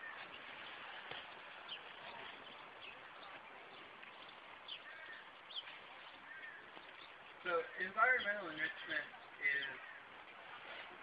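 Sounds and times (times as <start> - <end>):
bird chirps: 0.0 - 10.1
faint outdoor background noise: 0.0 - 11.0.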